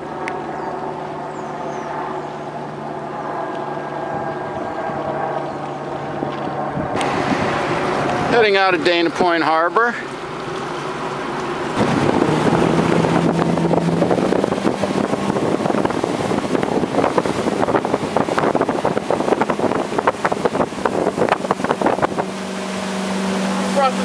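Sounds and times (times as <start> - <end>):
wind on microphone: 0.0 - 9.3, 10.4 - 24.0
boat engine under throttle: 0.0 - 24.0.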